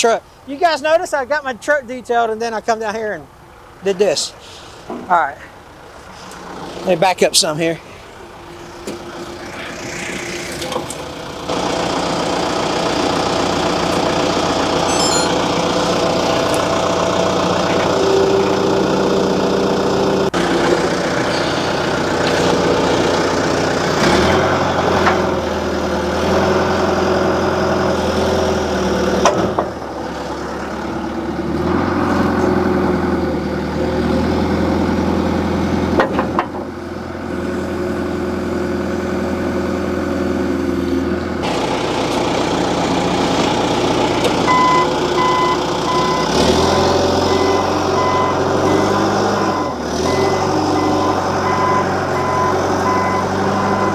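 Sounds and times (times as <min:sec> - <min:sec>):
diesel backhoe engine running: 0:07.9 - 0:53.9.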